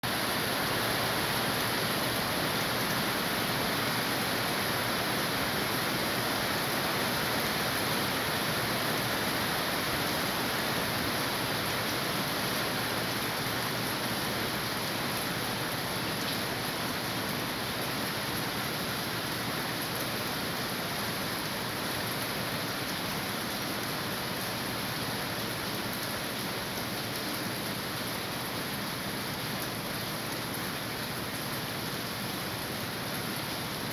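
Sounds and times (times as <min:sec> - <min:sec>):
rain falling steadily: 0:00.0 - 0:33.9.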